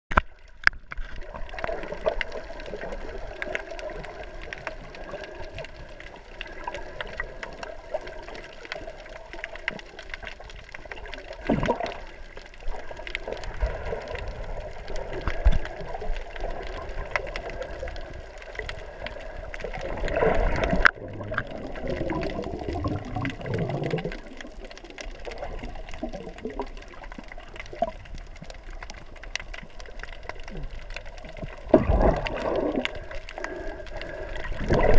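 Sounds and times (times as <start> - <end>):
faint scattered clicks: 0.1 - 34.9
underwater gurgling and rushing: 0.1 - 34.9.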